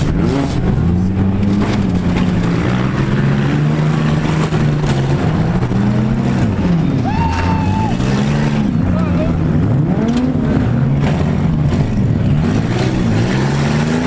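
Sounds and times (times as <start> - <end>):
car engines revving: 0.0 - 14.0
cars colliding metal crunch: 0.0 - 14.0.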